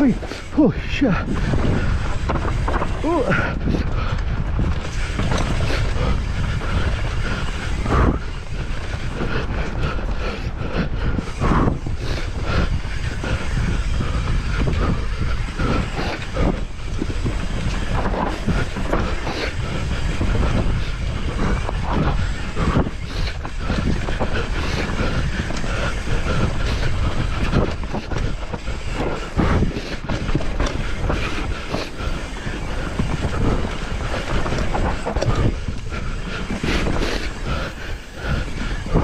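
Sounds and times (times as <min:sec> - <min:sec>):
tyres rumbling over dirt and stones: 0:00.0 - 0:10.2, 0:11.3 - 0:39.0
bike rattling and knocking: 0:00.0 - 0:39.0.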